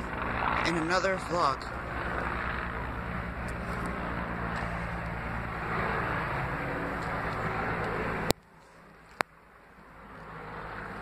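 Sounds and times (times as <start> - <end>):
helicopter rotor pulsing drone: 0.0 - 11.0.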